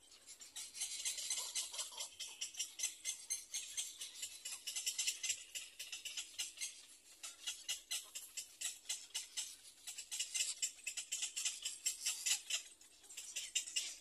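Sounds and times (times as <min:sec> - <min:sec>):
bird chicks ticking calls: 0:00.0 - 0:14.0.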